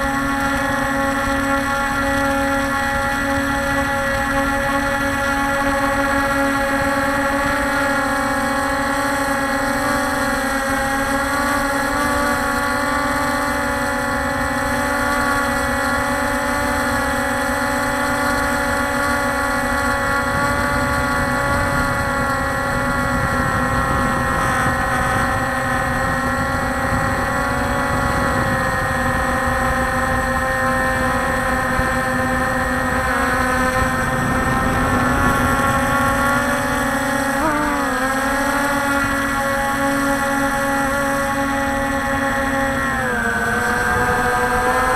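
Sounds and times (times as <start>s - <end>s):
drone propellers whining: 0.0s - 44.9s.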